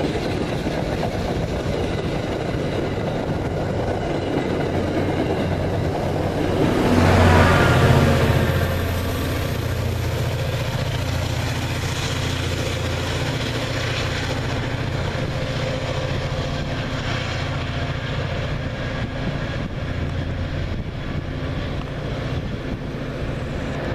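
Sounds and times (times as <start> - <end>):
diesel locomotive engine drone: 0.0 - 23.9
train wheels on rails: 0.0 - 23.9.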